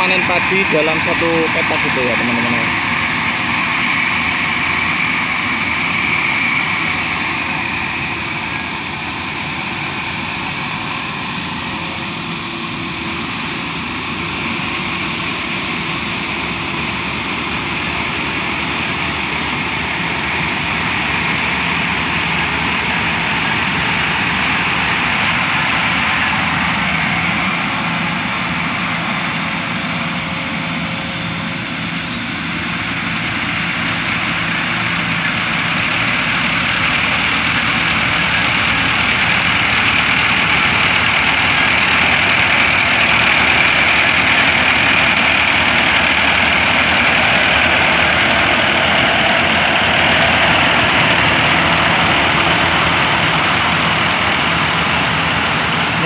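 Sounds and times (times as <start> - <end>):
diesel engine drone: 0.0 - 56.0
whirr of threshing machinery: 0.0 - 56.0.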